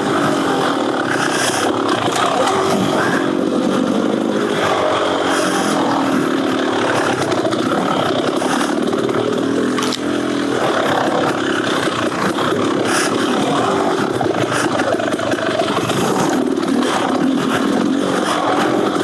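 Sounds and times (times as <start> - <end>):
two-stroke dirt bike engine: 0.0 - 19.0.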